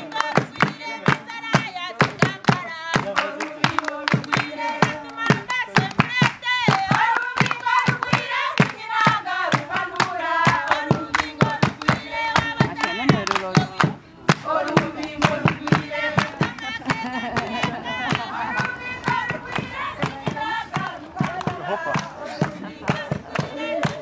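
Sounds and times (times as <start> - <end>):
rhythmic hand clapping: 0.0 - 24.0
women singing together: 0.0 - 24.0.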